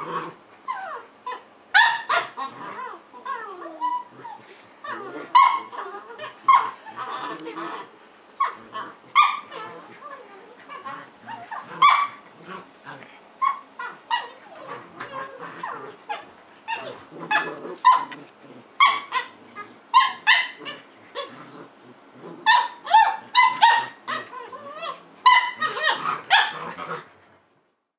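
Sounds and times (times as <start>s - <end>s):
puppies barking and yipping: 0.0s - 12.8s, 13.4s - 27.1s.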